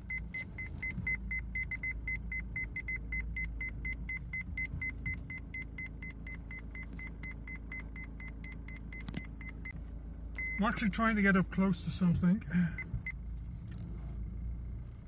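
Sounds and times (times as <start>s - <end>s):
parking sensor beeping: 0.0s - 11.4s, 12.4s - 13.3s
car engine idling: 0.0s - 15.0s.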